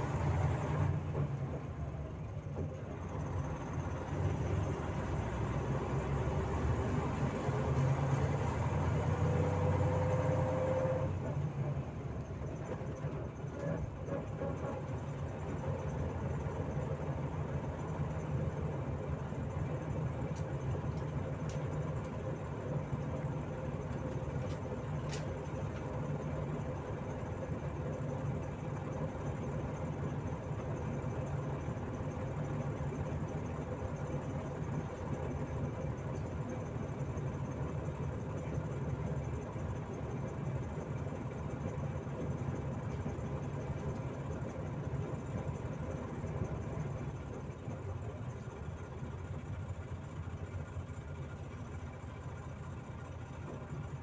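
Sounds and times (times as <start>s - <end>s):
bus diesel engine drone: 0.0s - 54.0s
road noise: 0.0s - 54.0s.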